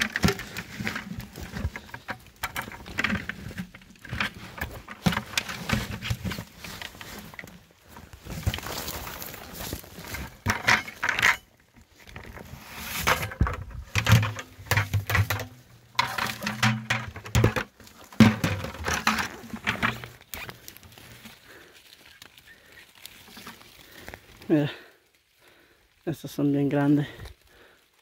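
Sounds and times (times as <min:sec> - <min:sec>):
wet leaves and twigs crackling: 0:00.0 - 0:28.0.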